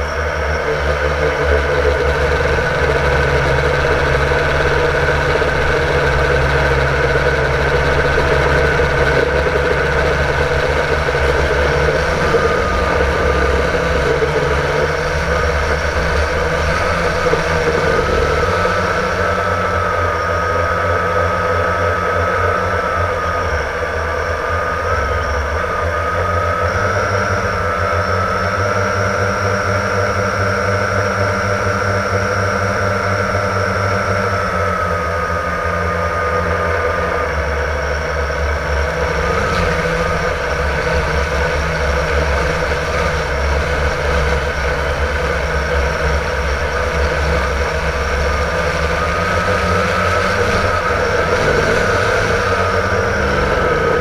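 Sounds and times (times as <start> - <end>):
quadcopter motors whirring: 0.0 - 54.0.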